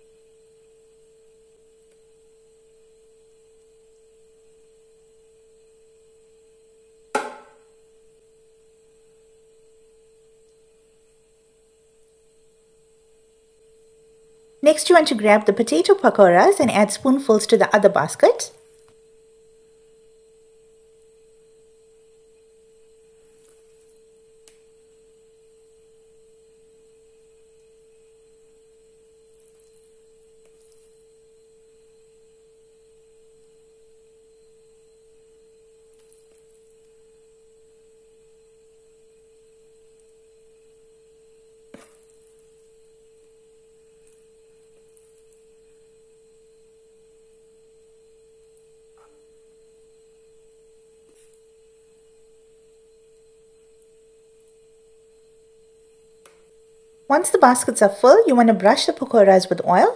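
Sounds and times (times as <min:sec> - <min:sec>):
faint electronic whine: 0:00.0 - 0:59.9.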